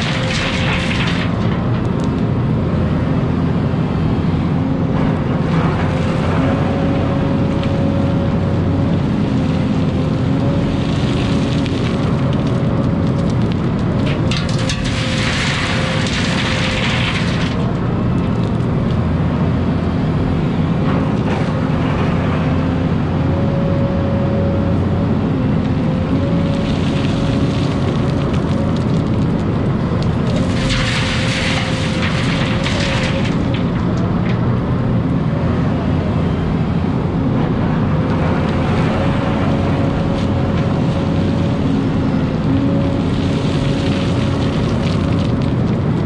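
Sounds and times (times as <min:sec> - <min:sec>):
excavator engine under load: 0:00.0 - 0:46.0.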